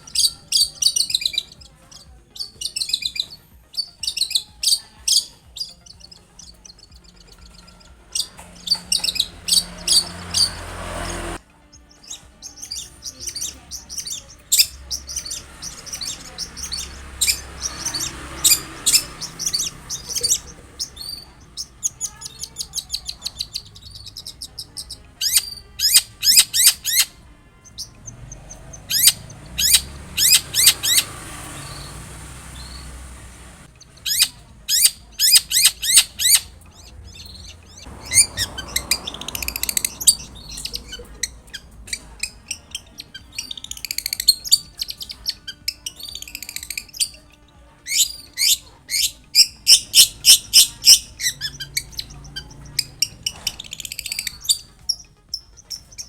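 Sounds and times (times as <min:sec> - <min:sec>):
shrike singing: 0:00.0 - 0:56.0.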